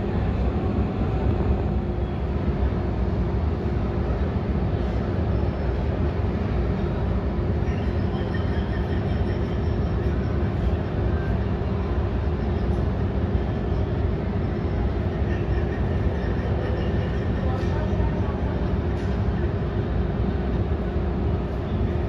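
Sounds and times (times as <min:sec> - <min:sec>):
airliner engine rumble: 0:00.0 - 0:22.0
constant low hum: 0:00.0 - 0:22.0.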